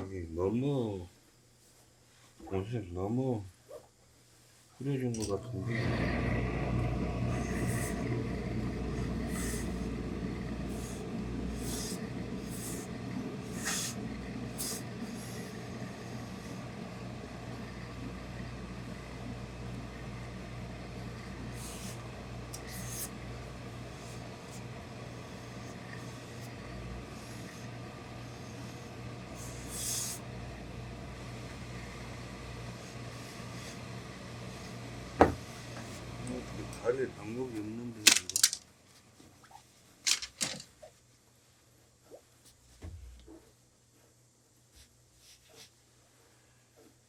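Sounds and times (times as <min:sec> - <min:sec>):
steady low hum: 0:00.0 - 0:39.2.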